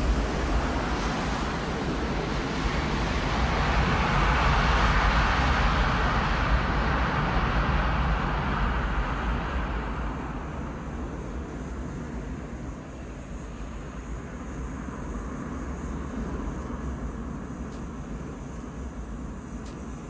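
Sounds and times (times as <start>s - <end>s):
jet airliner passing overhead: 0.0s - 20.0s.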